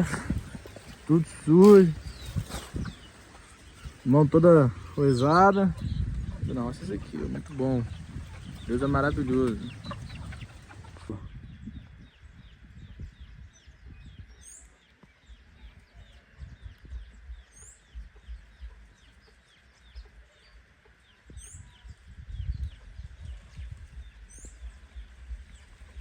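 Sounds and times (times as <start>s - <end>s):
low rumbling microphone noise: 0.0s - 14.6s, 15.2s - 26.0s
birds chirping: 0.0s - 26.0s.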